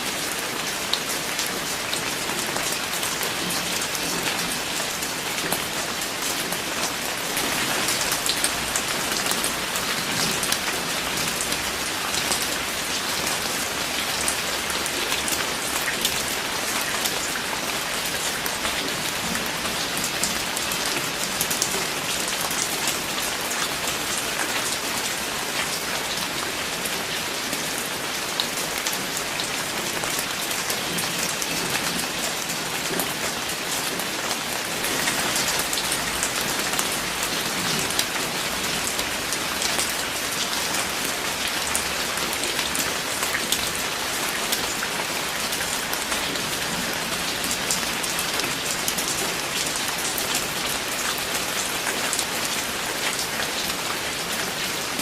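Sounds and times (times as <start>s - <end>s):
rain drops pattering on a surface: 0.0s - 55.0s.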